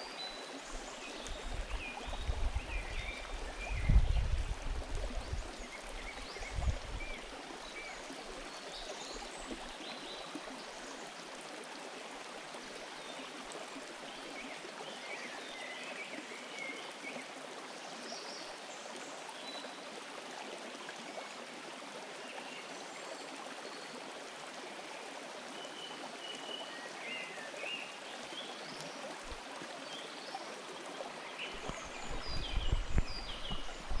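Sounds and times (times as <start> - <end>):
stream babbling over stones: 0.0 - 34.0.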